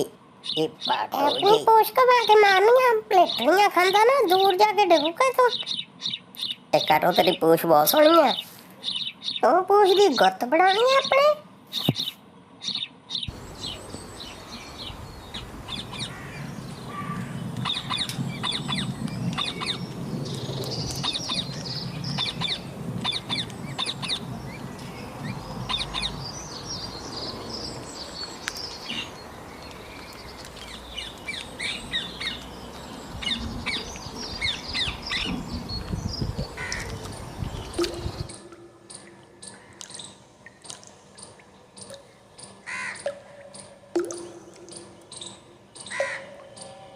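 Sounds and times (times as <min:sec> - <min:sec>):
small birds chirping and squawking: 0:00.4 - 0:43.7.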